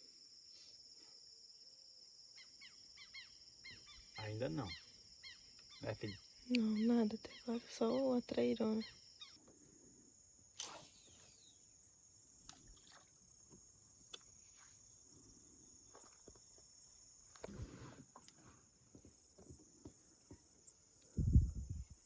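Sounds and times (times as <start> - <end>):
night insects chirring: 0.0 - 22.0.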